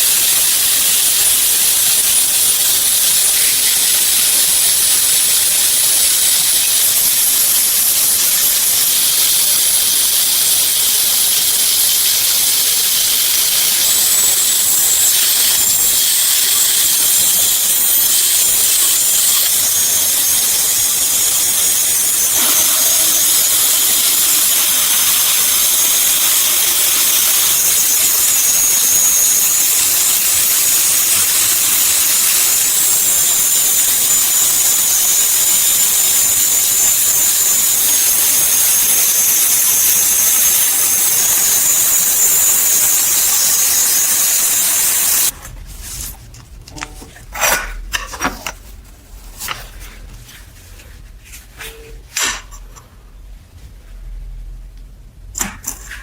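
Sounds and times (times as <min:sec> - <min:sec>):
power tool hissing and whining: 0:00.0 - 0:45.4.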